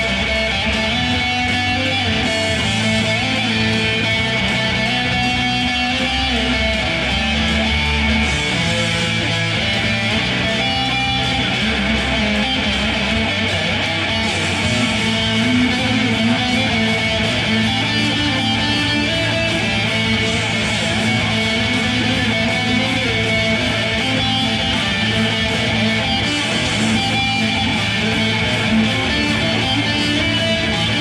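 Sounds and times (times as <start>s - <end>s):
electric guitar through amplifier: 0.0s - 31.0s.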